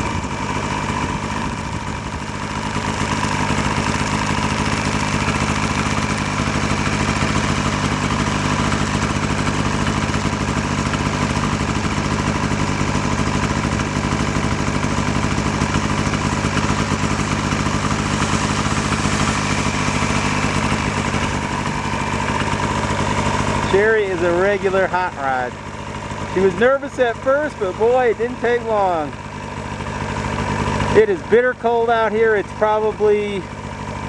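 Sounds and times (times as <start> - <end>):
snowmobile engine running: 0.0 - 34.0.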